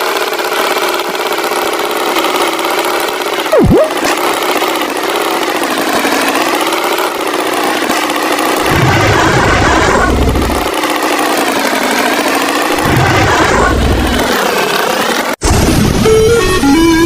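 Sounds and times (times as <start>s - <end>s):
cartoon tractor engine revving: 0.0s - 17.0s.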